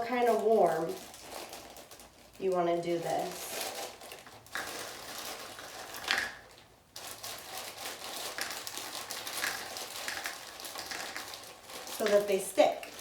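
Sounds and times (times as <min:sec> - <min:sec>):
candy wrapper crinkling: 0:00.0 - 0:13.0.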